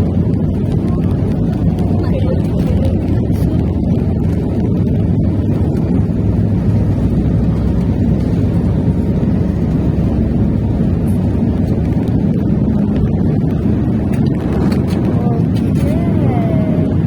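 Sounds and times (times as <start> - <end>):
aircraft engine rumble during takeoff: 0.0 - 17.0.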